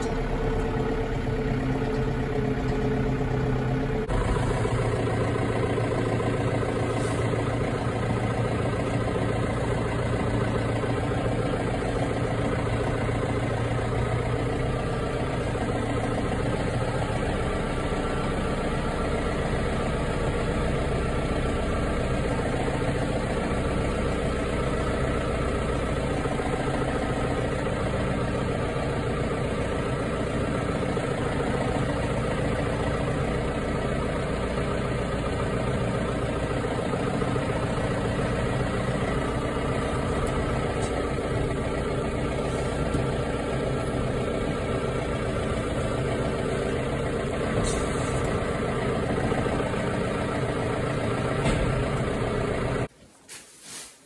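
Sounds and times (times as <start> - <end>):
tractor engine running: 0.0 - 53.2.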